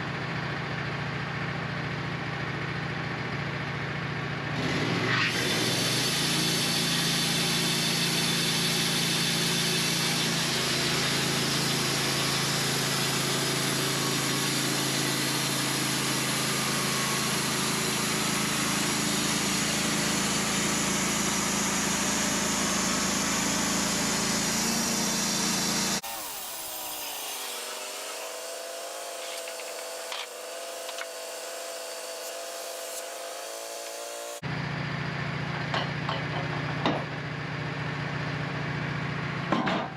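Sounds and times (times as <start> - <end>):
bandsaw mill cutting log: 2.2 - 39.9.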